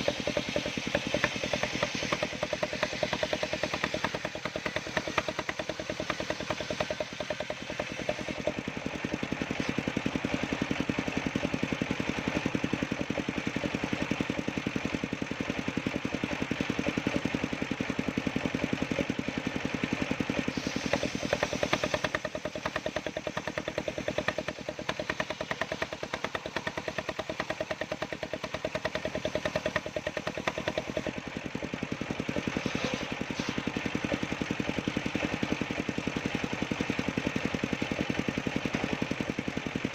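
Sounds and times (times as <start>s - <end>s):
sawmill engine sawing wood: 0.0s - 39.9s.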